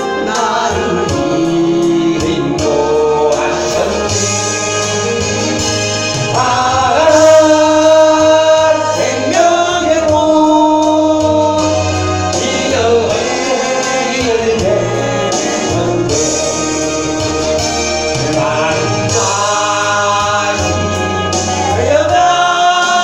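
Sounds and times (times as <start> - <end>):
instrumental accompaniment: 0.0 - 23.0
voices singing praise song: 0.0 - 23.0.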